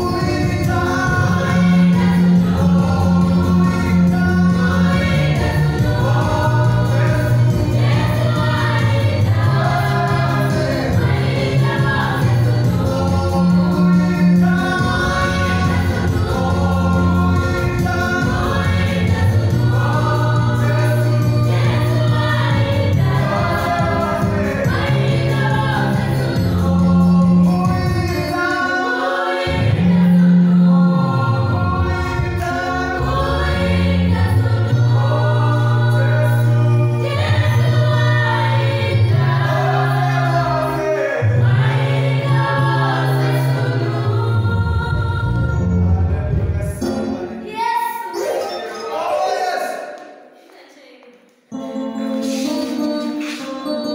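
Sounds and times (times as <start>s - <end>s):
choir singing a gospel song: 0.0s - 50.5s, 51.5s - 53.9s.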